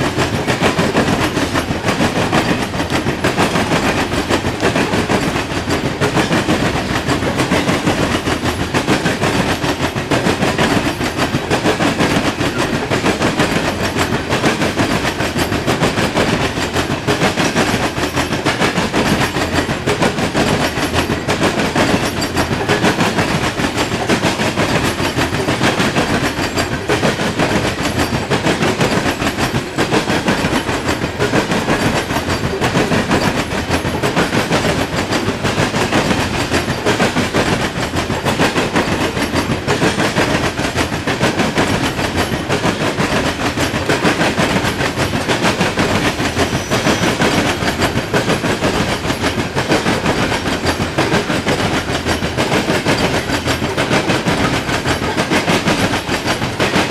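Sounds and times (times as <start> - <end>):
freight train rolling past: 0.0 - 56.9
steel wheels clicking over rails: 0.0 - 56.9.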